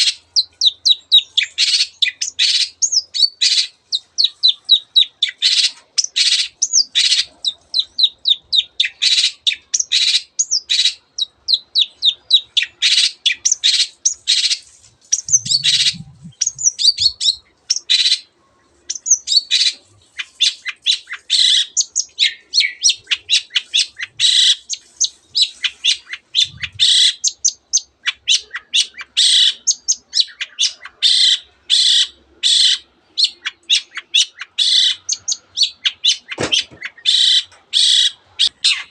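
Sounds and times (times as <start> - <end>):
shrike singing: 0.0 - 18.3, 18.9 - 38.9.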